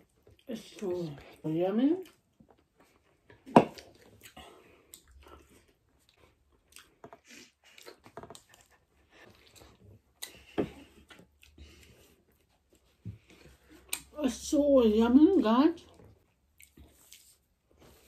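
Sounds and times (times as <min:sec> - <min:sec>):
chewing pizza: 0:00.0 - 0:14.2, 0:15.8 - 0:18.0.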